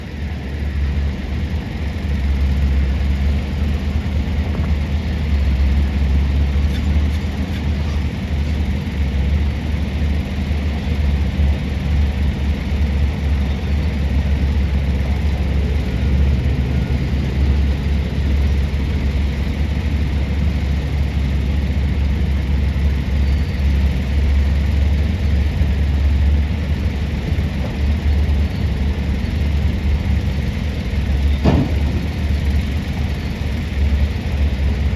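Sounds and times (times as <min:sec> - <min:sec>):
diesel machinery engine drone: 0:00.0 - 0:34.9.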